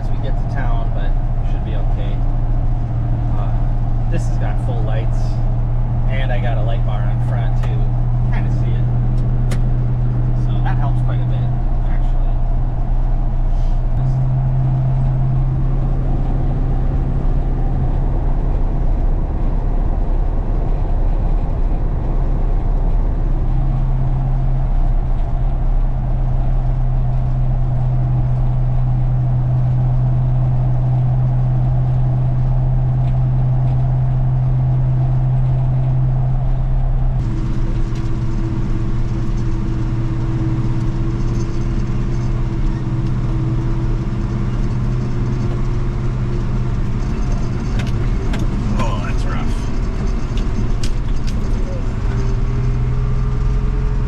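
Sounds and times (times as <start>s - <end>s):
pickup truck engine and tyre hum: 0.0s - 54.0s.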